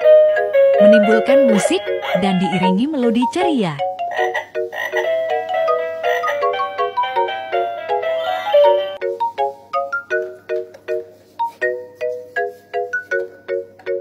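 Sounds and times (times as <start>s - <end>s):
toy keyboard electronic melody: 0.0s - 14.0s.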